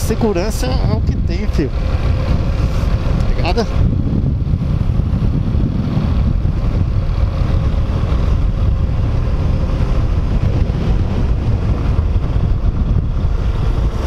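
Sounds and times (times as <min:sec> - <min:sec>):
motorcycle engine running: 0:00.0 - 0:14.0
wind on microphone: 0:00.0 - 0:14.0.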